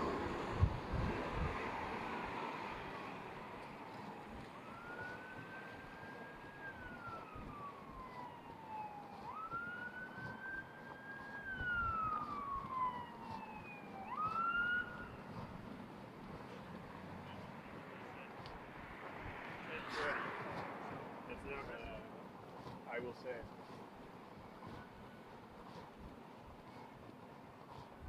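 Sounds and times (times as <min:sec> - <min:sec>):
emergency siren wailing: 0:00.0 - 0:23.8
street traffic: 0:00.0 - 0:28.0.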